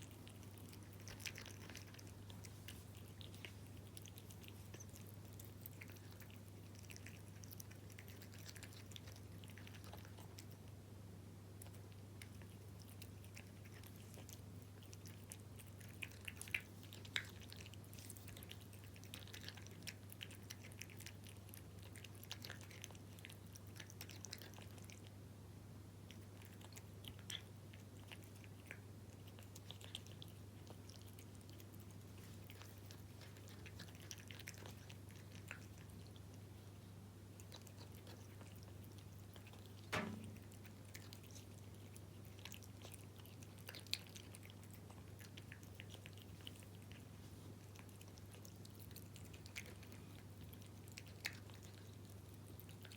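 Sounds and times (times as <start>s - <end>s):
cat chewing wet food: 0.0s - 52.9s.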